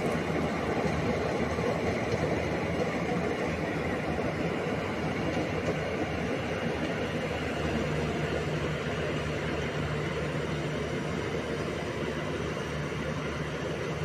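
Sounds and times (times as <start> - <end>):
combine harvester engine hum: 0.0 - 14.0.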